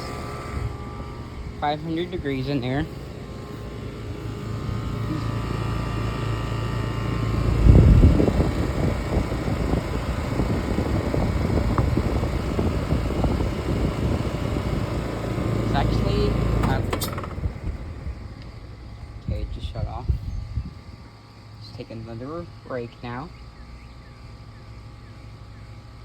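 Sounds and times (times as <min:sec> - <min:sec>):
air conditioner unit humming: 0:00.0 - 0:26.0.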